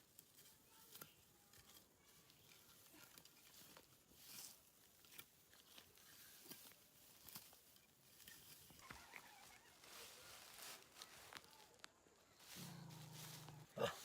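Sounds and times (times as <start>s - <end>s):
soft ticks and rustles: 0.0s - 14.0s.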